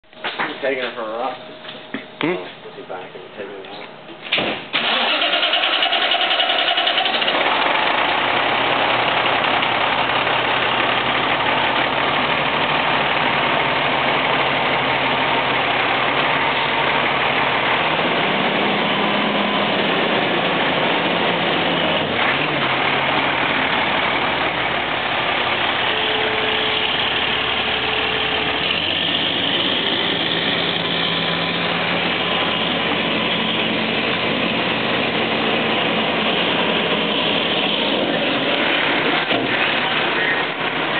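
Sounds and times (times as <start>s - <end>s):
truck engine starting and idling: 2.9s - 40.9s.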